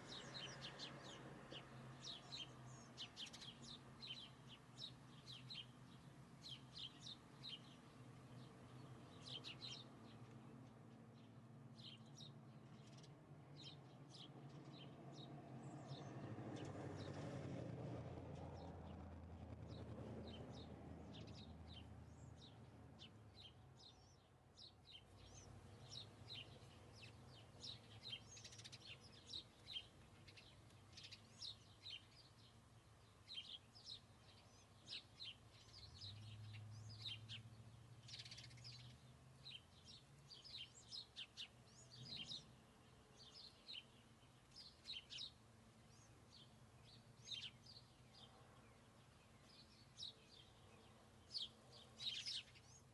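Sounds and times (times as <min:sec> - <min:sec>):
small birds chirping: 0:00.0 - 0:17.5, 0:18.2 - 0:52.9.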